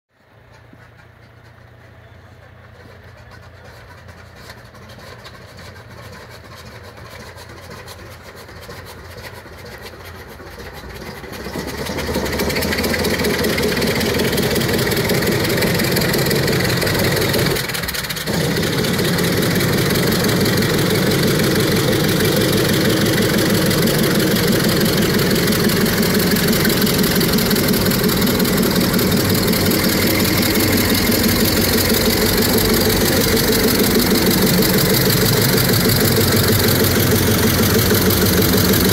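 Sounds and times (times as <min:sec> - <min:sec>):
radial aircraft engine starting: 0:00.2 - 0:38.9.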